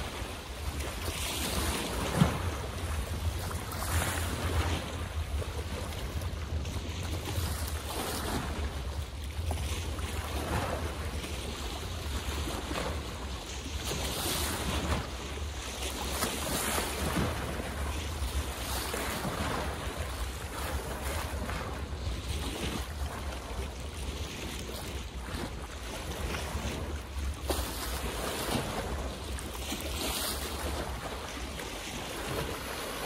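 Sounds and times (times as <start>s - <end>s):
waves splashing: 0.0s - 33.0s.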